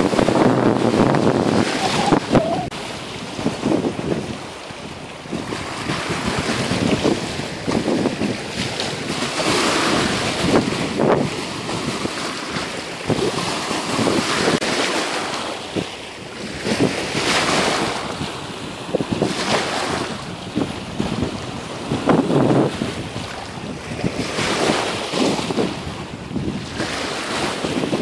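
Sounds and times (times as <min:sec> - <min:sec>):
small waves lapping: 0:00.0 - 0:25.9
wind buffeting microphone: 0:00.0 - 0:28.0.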